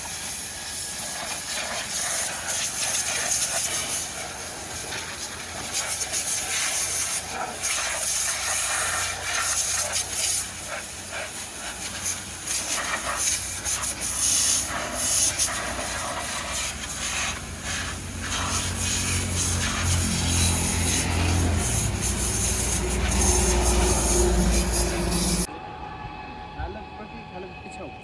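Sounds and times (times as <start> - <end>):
water spray hissing: 0.0 - 25.5.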